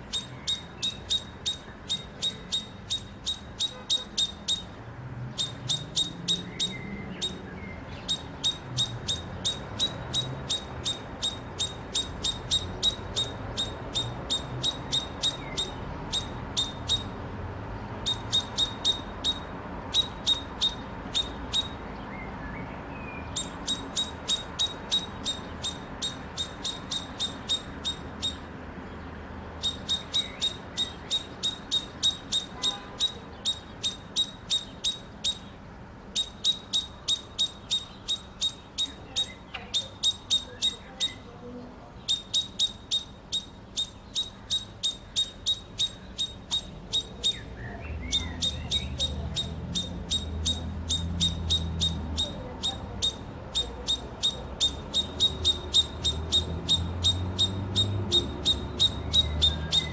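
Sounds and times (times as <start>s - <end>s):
blackbird song: 0.0s - 59.9s.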